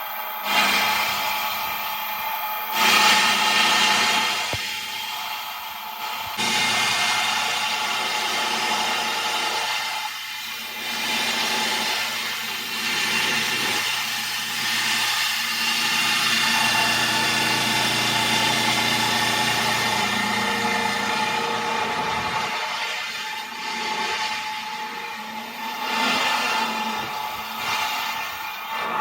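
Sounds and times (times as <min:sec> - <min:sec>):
heavy machinery running: 0:00.0 - 0:29.0.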